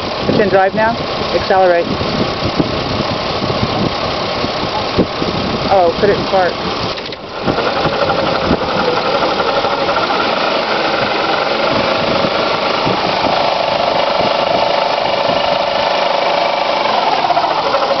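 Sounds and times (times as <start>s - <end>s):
car engine mechanical noise: 0.0s - 18.0s.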